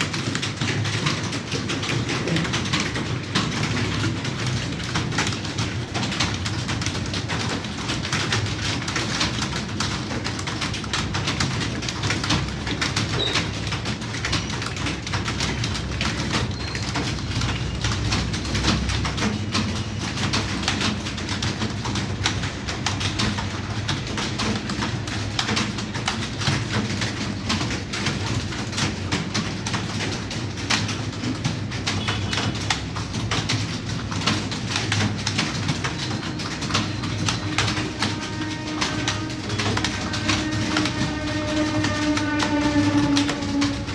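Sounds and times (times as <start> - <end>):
typing on computer keyboard: 0.0 - 43.9.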